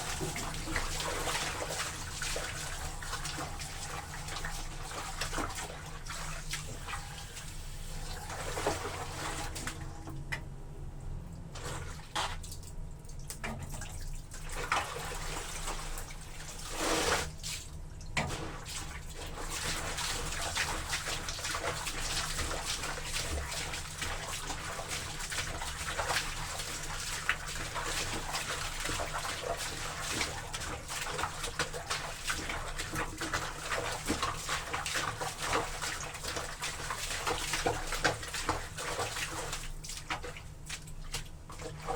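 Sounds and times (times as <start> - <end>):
water sloshing and splashing in a tub: 0.0 - 41.9.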